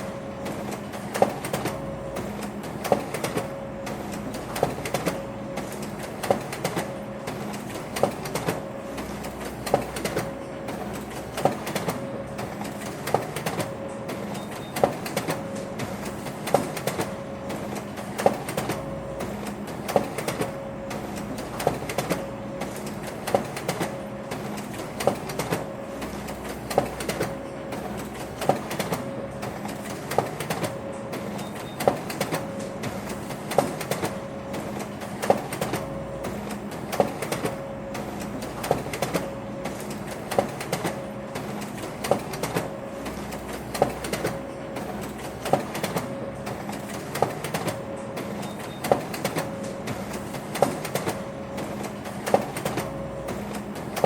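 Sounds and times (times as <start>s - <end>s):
printer clacking: 0.0s - 54.0s
printer mechanical hum: 0.0s - 54.0s.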